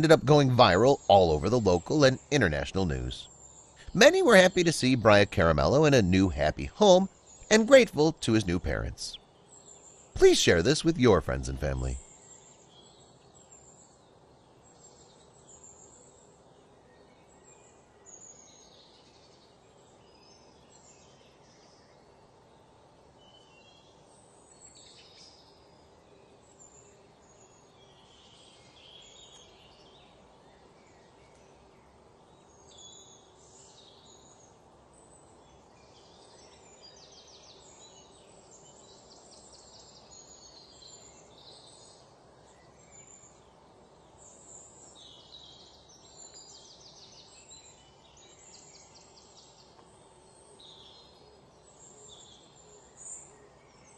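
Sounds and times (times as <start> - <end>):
low steady background hiss: 0.0 - 53.9.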